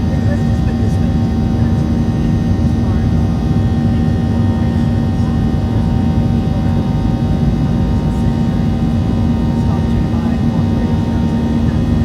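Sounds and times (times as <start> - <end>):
jet engine cabin drone: 0.0 - 12.0.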